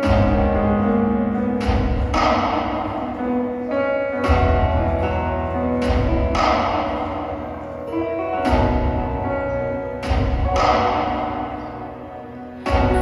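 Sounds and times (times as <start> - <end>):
music with deep bass: 0.0 - 13.0.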